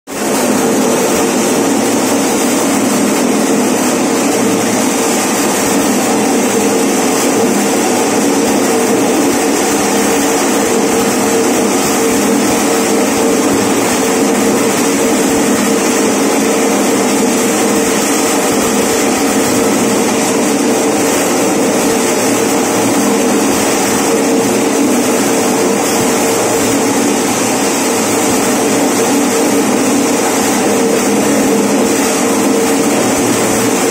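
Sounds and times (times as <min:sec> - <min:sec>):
electric corn sheller running: 0:00.1 - 0:33.9.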